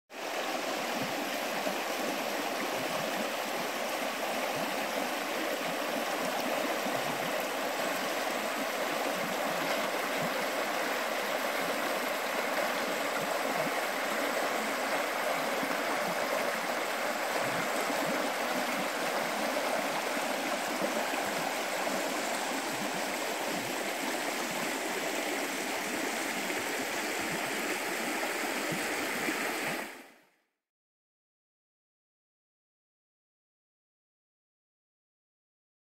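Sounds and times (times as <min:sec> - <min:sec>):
river babbling over stones: 0:00.2 - 0:30.0.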